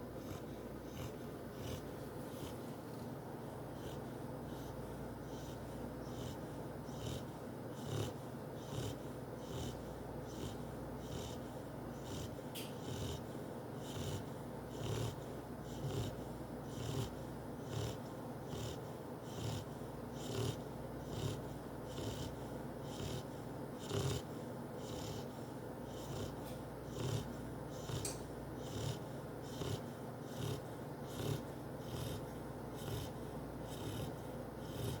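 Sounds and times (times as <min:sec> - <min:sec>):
pet snoring: 0:00.0 - 0:35.0.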